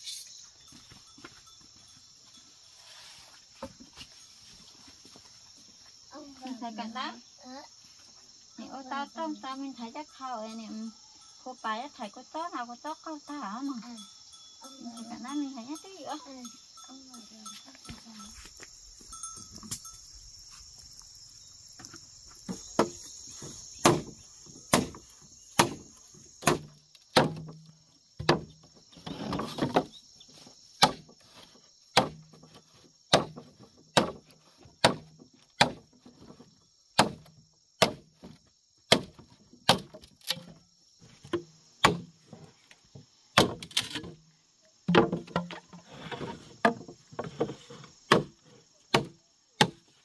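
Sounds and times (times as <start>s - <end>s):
insect drone: 0.0s - 50.0s.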